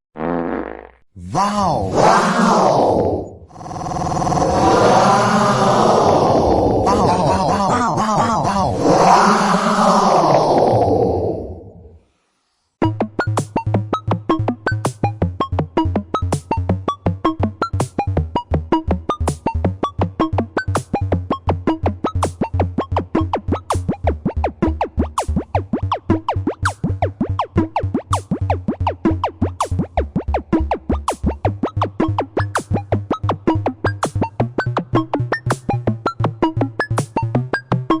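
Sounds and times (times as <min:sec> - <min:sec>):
comical electronic music: 0:01.3 - 0:11.2, 0:12.8 - 0:38.0.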